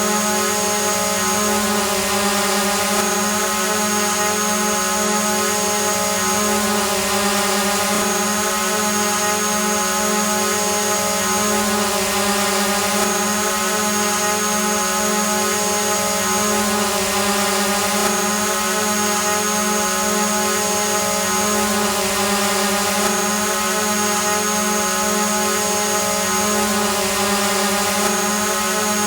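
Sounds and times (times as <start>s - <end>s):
drone propellers buzzing whine: 0.0s - 29.0s.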